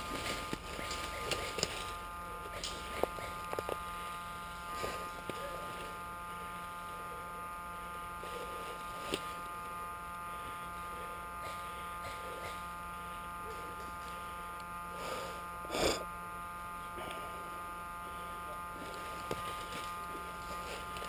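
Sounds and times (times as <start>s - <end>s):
steady electrical buzz: 0.0s - 21.0s.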